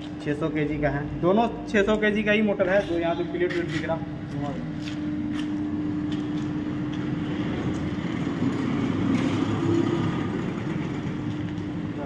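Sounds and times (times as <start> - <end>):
electric motors humming: 0.0 - 12.0.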